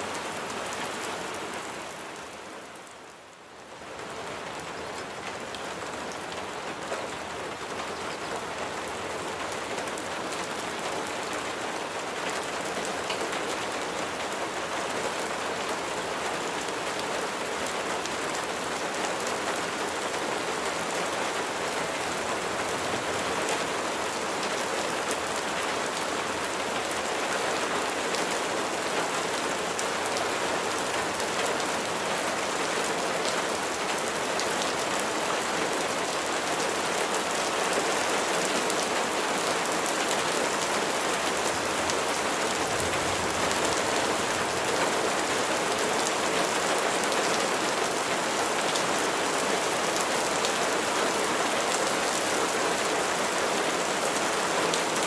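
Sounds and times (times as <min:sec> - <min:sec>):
rain patter: 0:00.0 - 0:55.0.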